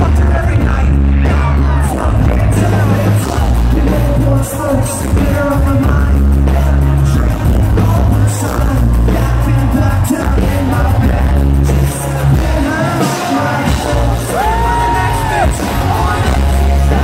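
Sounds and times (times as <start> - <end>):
drums: 0.0 - 17.0
electric guitar: 0.0 - 17.0
heavy bass: 0.0 - 17.0
person singing: 0.0 - 17.0.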